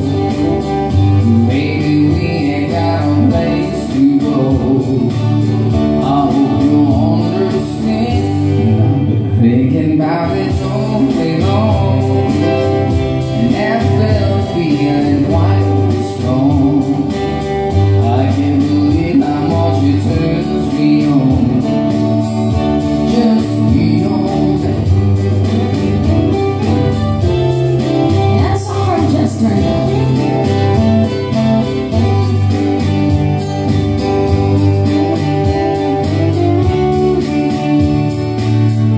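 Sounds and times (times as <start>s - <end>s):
person singing: 0.0s - 32.9s
bass line: 0.0s - 38.9s
guitar: 0.0s - 38.9s.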